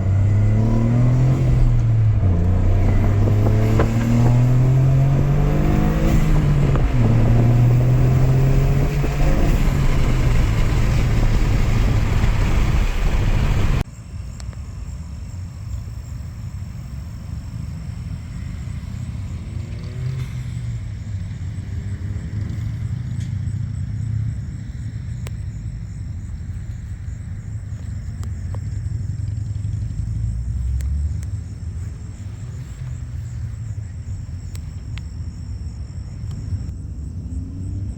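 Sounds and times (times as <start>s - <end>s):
car engine running: 0.0s - 13.8s, 16.1s - 37.9s.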